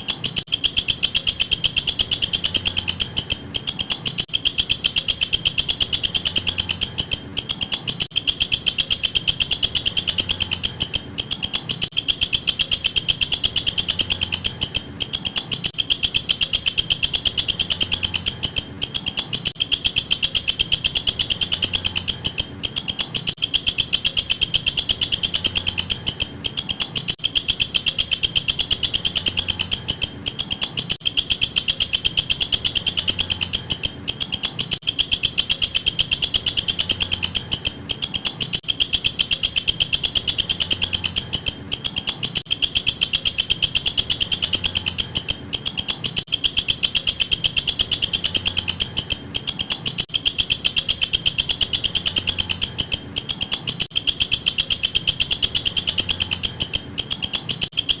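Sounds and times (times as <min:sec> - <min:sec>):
cricket ticking trill: 0:00.0 - 0:58.0.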